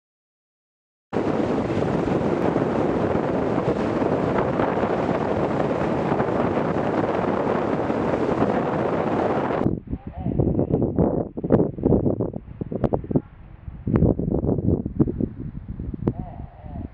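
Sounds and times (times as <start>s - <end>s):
strong wind buffeting microphone: 1.2s - 16.9s.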